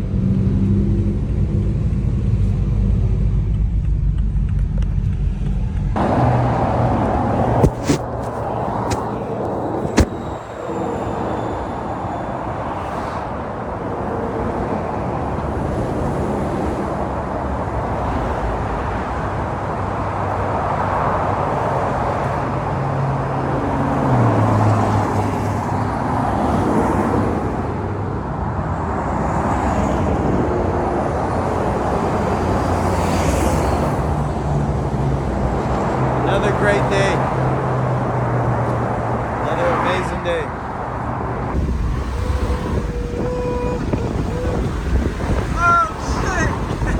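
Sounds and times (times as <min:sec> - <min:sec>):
car engines running: 0:00.0 - 0:28.1, 0:28.8 - 0:46.9
traffic noise: 0:00.0 - 0:46.9.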